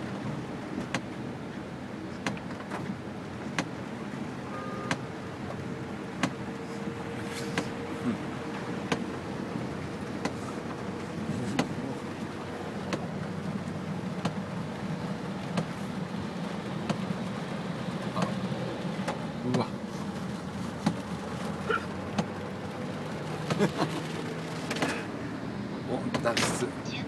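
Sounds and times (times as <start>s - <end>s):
car engine: 0.0s - 27.0s
heavy rain: 0.0s - 27.0s
tyres on wet road: 0.0s - 27.0s.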